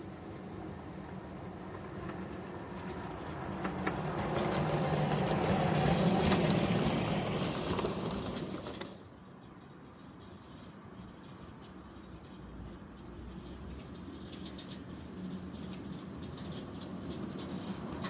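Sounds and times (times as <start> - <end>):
miniature train passing: 0.0 - 18.0.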